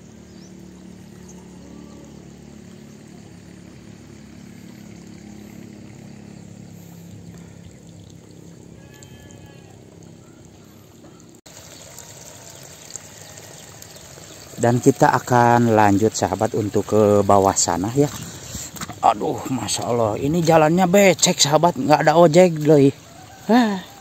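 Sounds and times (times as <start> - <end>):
water trickling in channels: 3.0 - 24.0.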